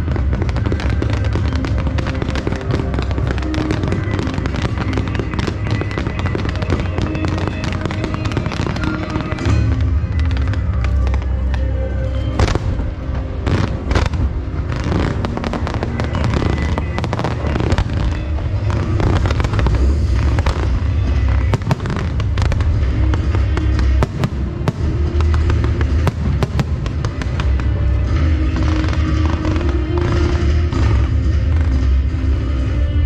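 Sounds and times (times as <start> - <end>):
fireworks bursting and crackling: 0.0 - 33.0
loud show music with heavy bass: 0.0 - 33.0.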